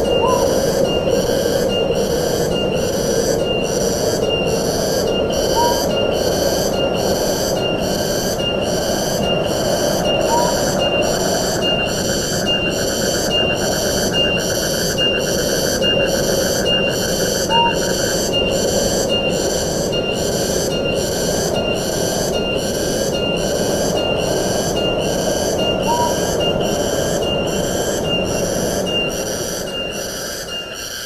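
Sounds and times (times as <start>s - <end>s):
pulsing insect chorus: 0.0s - 31.0s.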